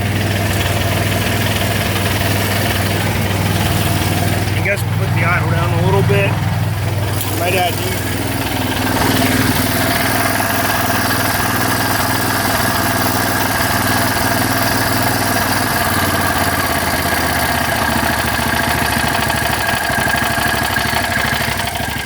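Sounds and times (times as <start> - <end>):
riding mower engine running: 0.0 - 22.0.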